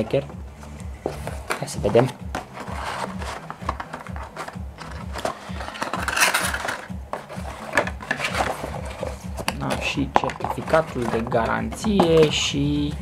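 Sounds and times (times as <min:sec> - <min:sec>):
music with low beat: 0:00.0 - 0:13.0
packaging rustling: 0:01.2 - 0:12.3.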